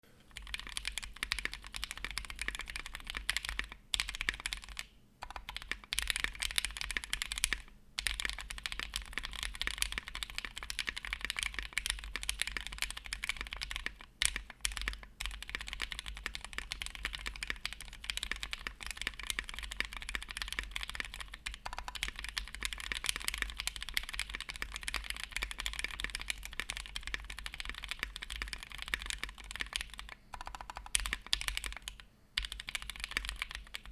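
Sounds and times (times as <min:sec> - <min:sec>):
fast mechanical keyboard typing: 0:00.3 - 0:33.9.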